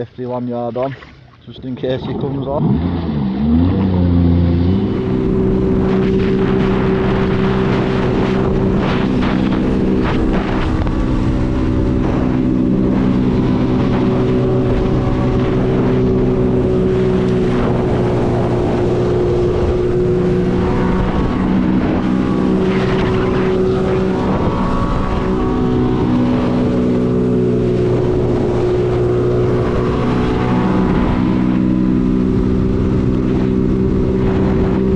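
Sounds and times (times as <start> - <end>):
jet ski engine running: 0.0 - 34.9
water rushing along hull: 0.0 - 34.9.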